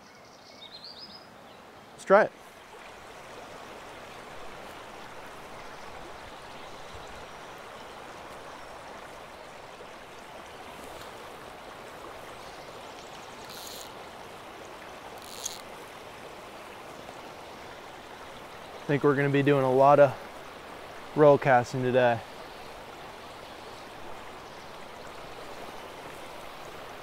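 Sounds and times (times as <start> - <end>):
mountain stream flowing: 1.1 - 27.0.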